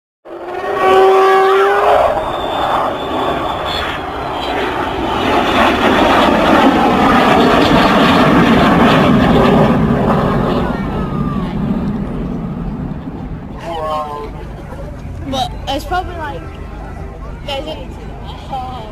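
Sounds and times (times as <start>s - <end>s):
aircraft engine flying past: 0.3s - 18.9s.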